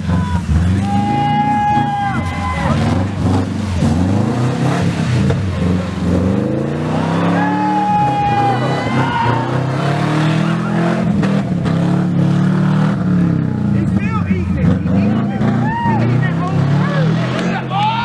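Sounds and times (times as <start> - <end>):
car engine revving hard: 0.0 - 18.0.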